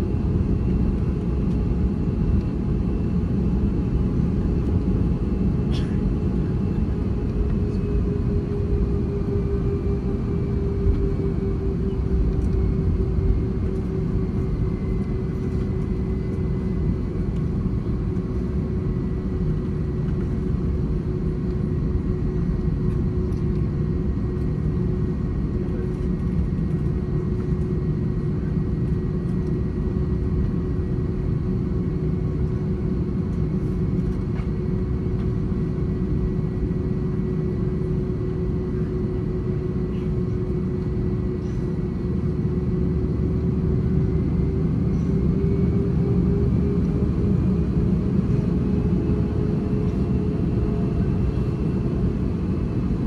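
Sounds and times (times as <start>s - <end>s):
droning hum: 0.0s - 53.0s
jet engine rumble in cabin: 0.0s - 53.0s.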